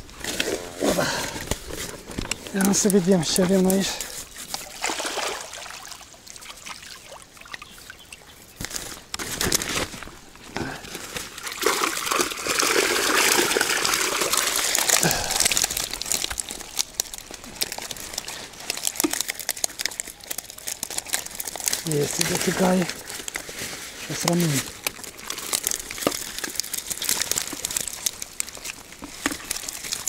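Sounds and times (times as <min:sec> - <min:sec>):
water splashing and streaming: 0:00.1 - 0:08.7, 0:11.2 - 0:30.0.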